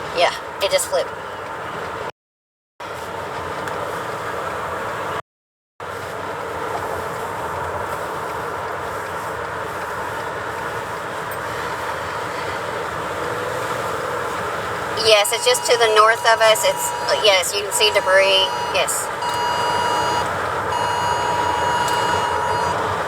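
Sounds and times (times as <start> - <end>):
road and engine noise in car cabin: 0.0 - 2.1, 2.8 - 5.2, 5.8 - 23.0.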